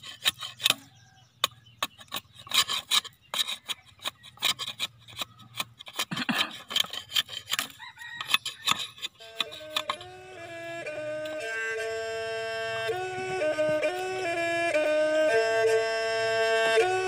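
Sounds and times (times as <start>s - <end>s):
machete scraping wooden board: 0.0s - 15.4s.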